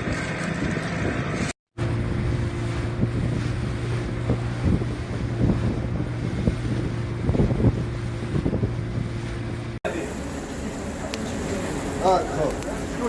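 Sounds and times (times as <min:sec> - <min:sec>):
engine humming: 0:00.0 - 0:13.0
wind buffeting microphone: 0:00.0 - 0:13.0.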